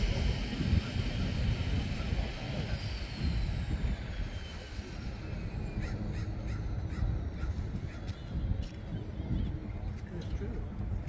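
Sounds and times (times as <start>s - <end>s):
faint falling whine: 0.0s - 11.0s
steady low rumble: 0.0s - 11.0s.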